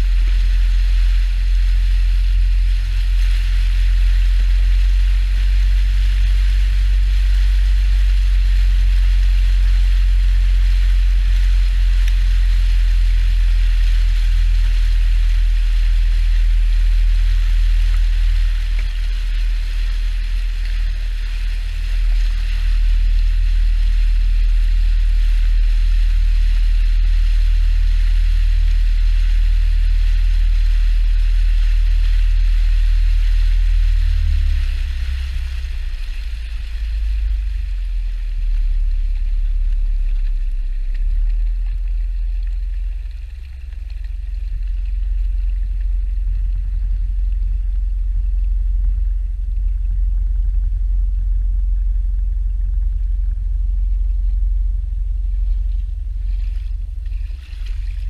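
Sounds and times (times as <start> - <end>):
water hissing along hull: 0.0 - 47.8, 55.8 - 58.0
boat engine rumble: 0.0 - 58.0.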